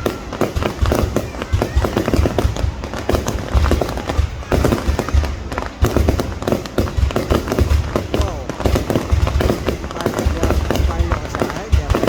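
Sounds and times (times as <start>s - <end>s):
fireworks bangs and crackles: 0.0s - 12.0s
fireworks deep booms: 0.0s - 12.0s.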